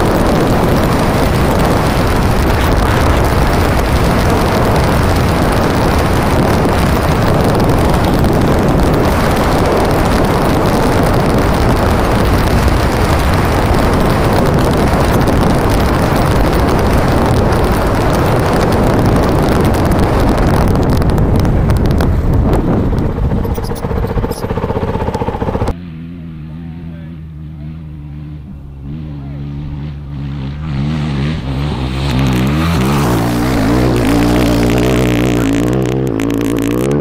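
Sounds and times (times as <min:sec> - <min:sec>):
wind buffeting microphone: 0:00.0 - 0:25.8, 0:31.2 - 0:37.0
motorcycle engine: 0:00.0 - 0:37.0.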